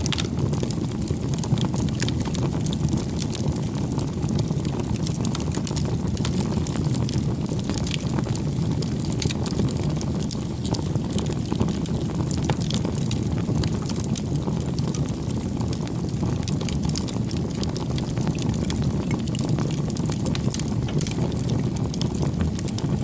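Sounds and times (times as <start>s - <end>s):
fire low rumble: 0.0s - 23.0s
wood fire crackling: 0.0s - 23.0s.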